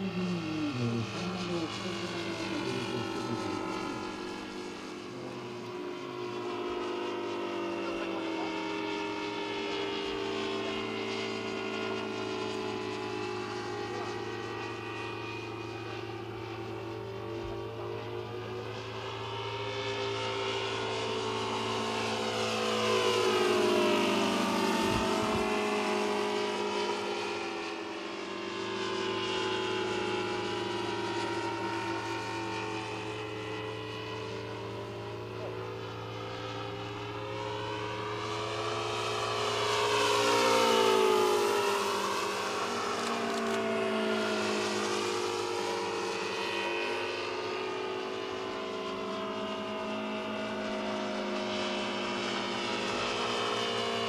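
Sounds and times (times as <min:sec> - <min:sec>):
model plane radial engines: 0:00.0 - 0:54.0.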